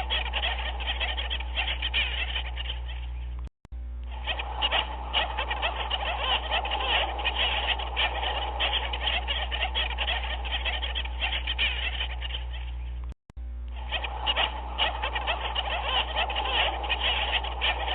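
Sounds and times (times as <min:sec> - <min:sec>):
chorus of animal calls: 0:00.0 - 0:03.4, 0:04.1 - 0:13.0, 0:13.7 - 0:17.9
steady low hum: 0:00.0 - 0:17.9.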